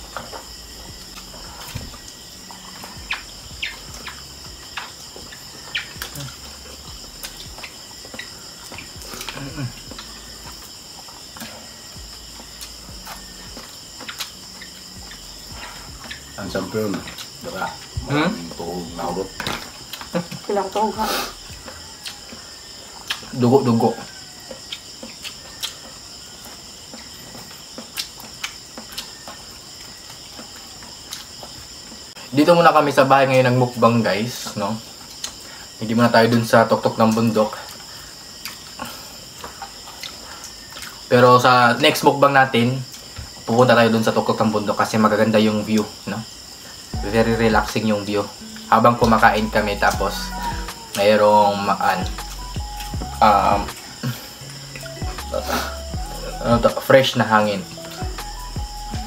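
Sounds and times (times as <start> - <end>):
people eating: 0.0 - 32.4, 33.0 - 59.0
insects chirring: 0.0 - 59.0.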